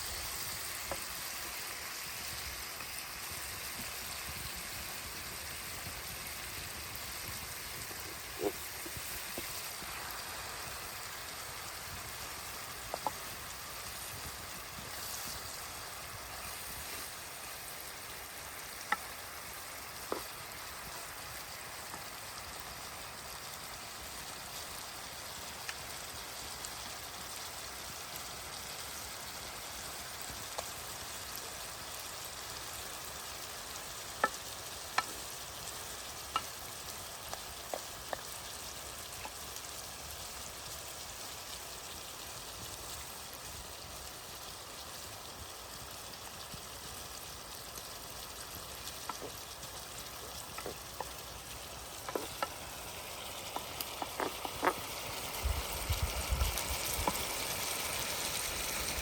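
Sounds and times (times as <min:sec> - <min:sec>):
outdoor ambience hiss: 0:00.0 - 0:59.0.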